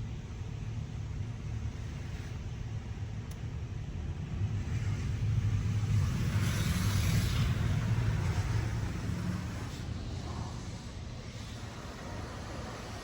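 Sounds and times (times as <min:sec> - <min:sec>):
car wash rumble: 0:00.0 - 0:13.0.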